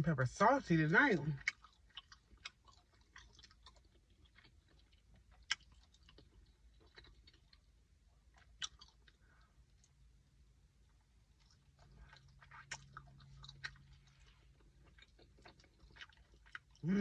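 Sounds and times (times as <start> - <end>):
person chewing food: 1.2 - 17.0.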